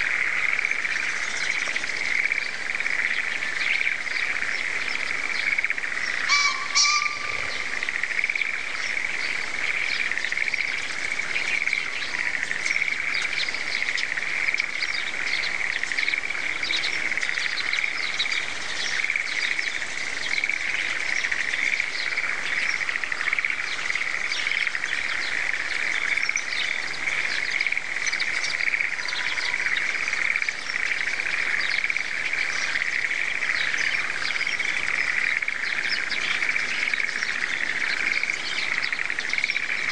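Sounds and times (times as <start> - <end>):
birds chirping: 0.0 - 39.9
frogs calling: 0.0 - 39.9.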